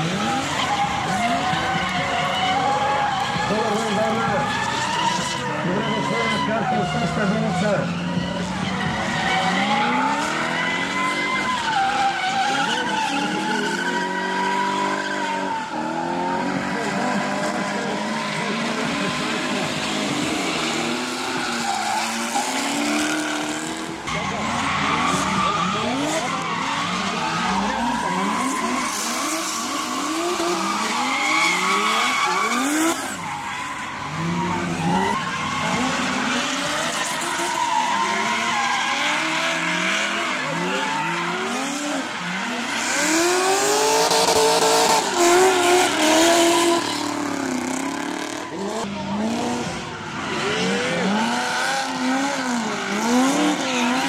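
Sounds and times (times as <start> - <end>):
car engines revving: 0.0 - 54.0
tyres squealing and skidding: 0.0 - 54.0.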